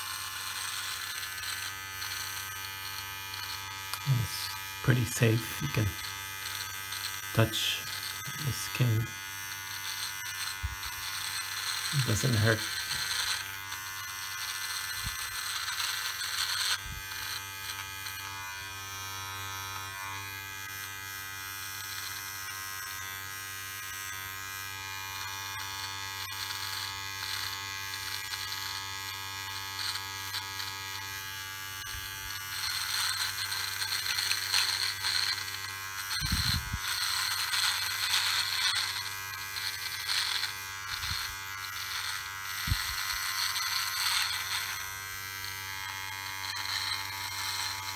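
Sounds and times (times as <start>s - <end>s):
electric trimmer buzzing: 0.0s - 47.9s
trimmer cutting stubble: 0.0s - 47.9s.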